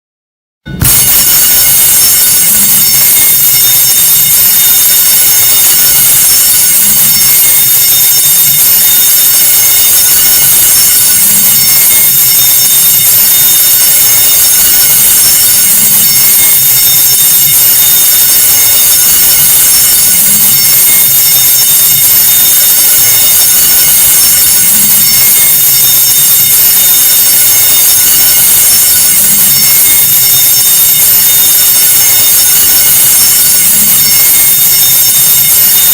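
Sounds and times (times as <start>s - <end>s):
school alarm bell ringing: 0.7s - 35.9s.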